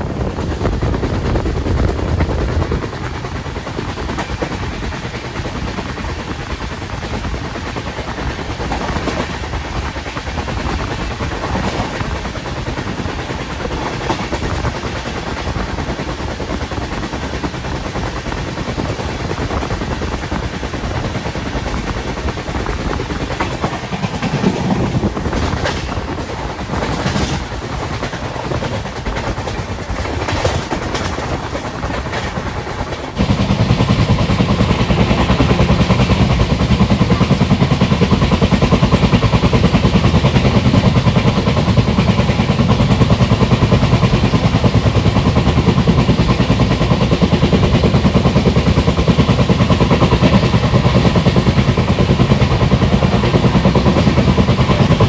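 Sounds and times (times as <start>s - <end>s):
fast low throb of moving train: 0.0s - 55.0s
train wheels clicking over rails: 0.0s - 55.0s.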